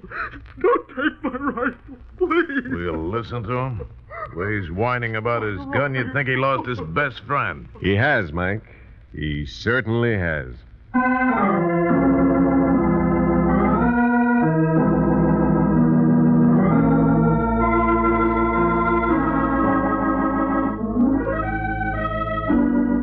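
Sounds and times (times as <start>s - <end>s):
organ chords: 0.0s - 23.0s.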